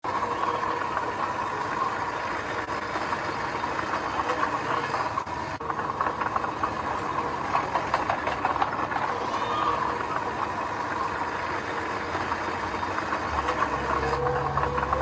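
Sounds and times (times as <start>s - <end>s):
constant whine: 0.0s - 15.0s
diesel engine running: 0.0s - 15.0s.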